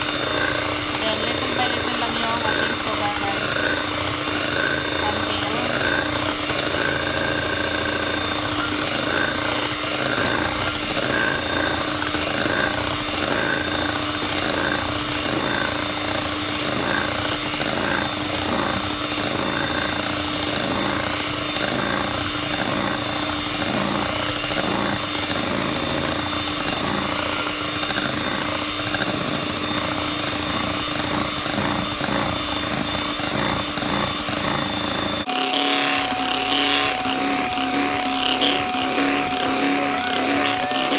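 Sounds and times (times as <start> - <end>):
electric hand mixer running: 0.0 - 40.9.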